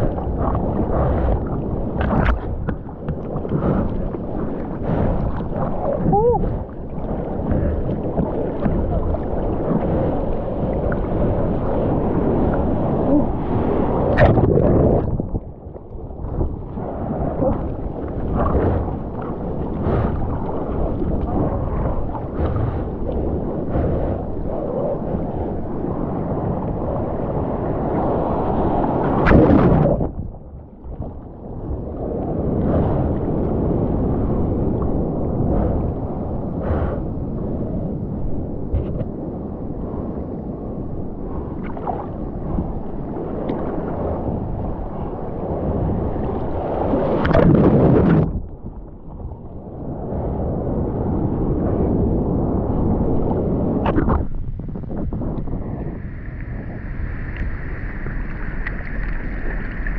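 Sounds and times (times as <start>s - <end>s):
sea water sloshing and splashing: 0.0s - 59.9s
surge of water: 0.0s - 59.9s.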